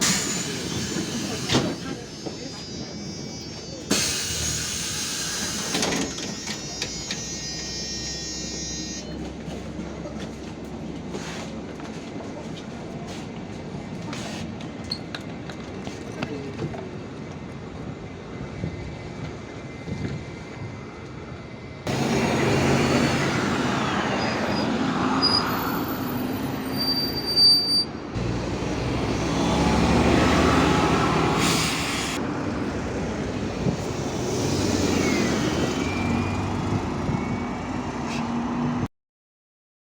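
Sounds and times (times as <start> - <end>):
city bus engine running: 0.0 - 38.9.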